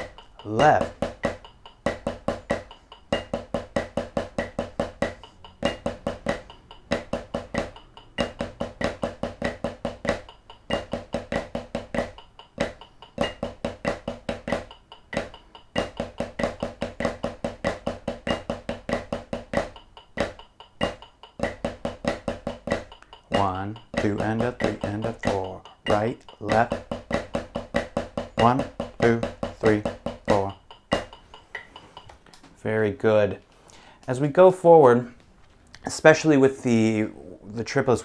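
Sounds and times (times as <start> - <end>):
snare drum triplets: 0.0 - 31.3.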